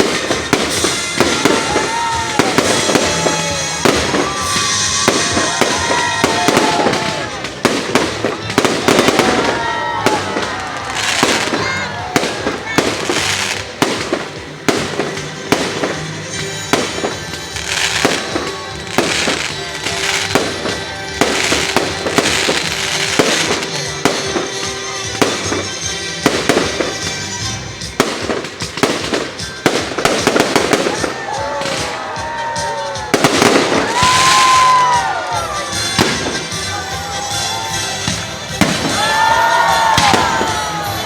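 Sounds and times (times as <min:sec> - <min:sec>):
fireworks bangs and bursts: 0:00.0 - 0:41.0
music playing: 0:00.0 - 0:41.0.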